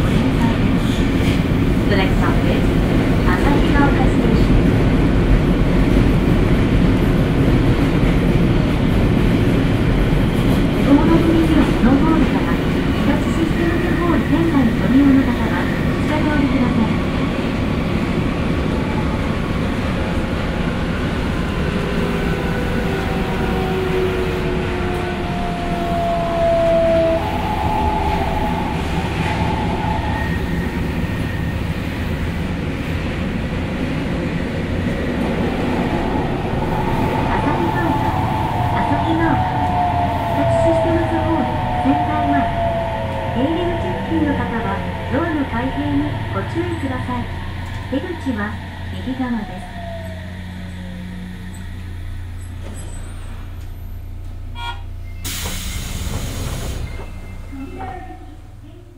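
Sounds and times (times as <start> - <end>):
train running rumble: 0.0 - 54.6.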